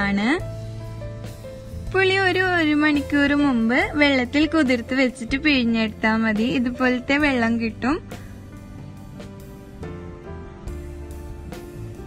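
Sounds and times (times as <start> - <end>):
plucked background music: 0.0 - 12.0.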